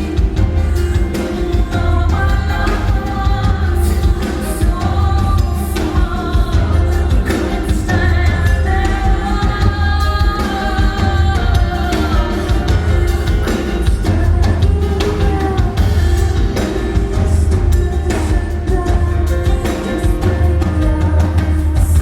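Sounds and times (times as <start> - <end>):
drum kit beat: 0.0 - 22.0
live rock band playing: 0.0 - 22.0
person singing: 0.0 - 22.0.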